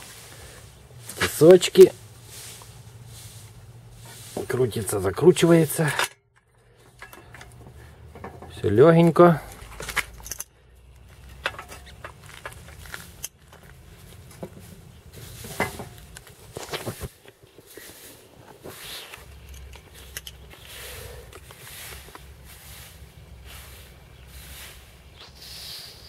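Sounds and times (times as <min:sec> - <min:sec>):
hands handling metal parts: 0:00.0 - 0:24.7.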